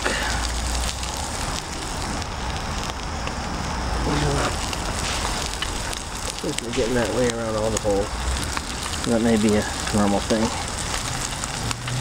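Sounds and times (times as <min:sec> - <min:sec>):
bacon sizzling in a pan: 0:00.0 - 0:12.0.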